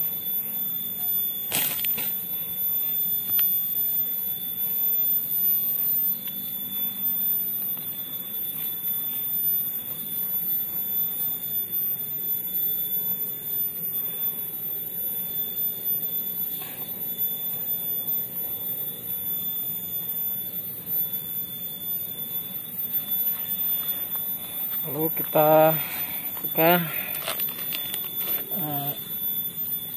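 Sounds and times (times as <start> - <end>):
high-pitched whine: 0.0 - 29.9.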